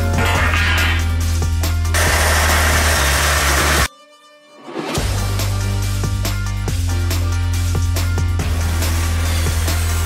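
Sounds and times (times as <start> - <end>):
music with heavy bass and drums: 0.0 - 3.9, 5.0 - 10.0.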